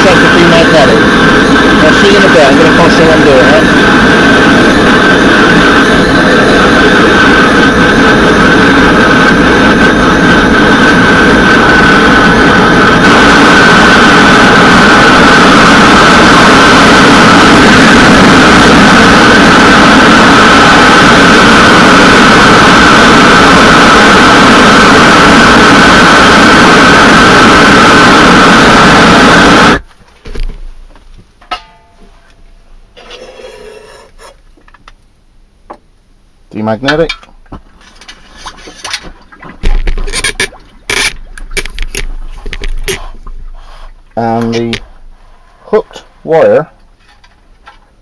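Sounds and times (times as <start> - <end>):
gas torch burner roaring: 0.0 - 29.9, 32.9 - 34.4, 36.8 - 47.3.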